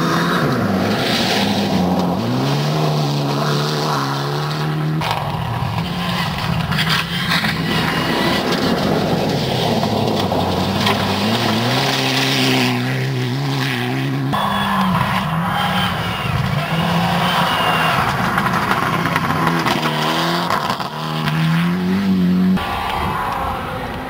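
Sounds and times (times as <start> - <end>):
tyres rushing on gravel: 0.0 - 23.1
rally car engines at high revs: 0.0 - 24.0.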